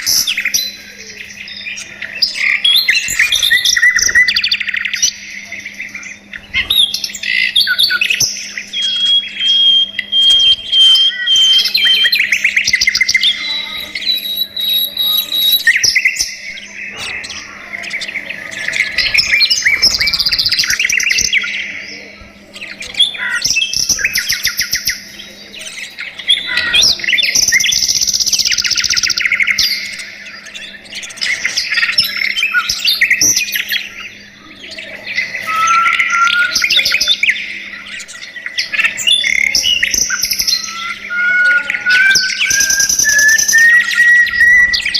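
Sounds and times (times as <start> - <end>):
budgerigars chirping and warbling: 0.0 - 44.9.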